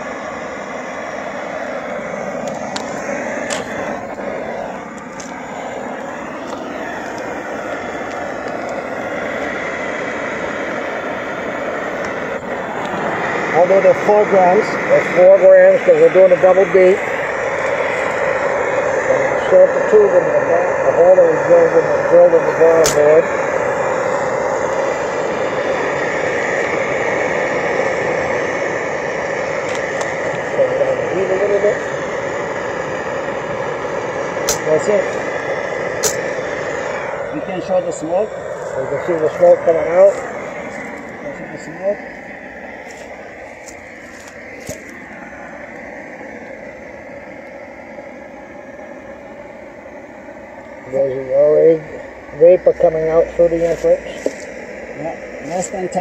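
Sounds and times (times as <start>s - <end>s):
propane torch hissing: 0.0s - 56.0s.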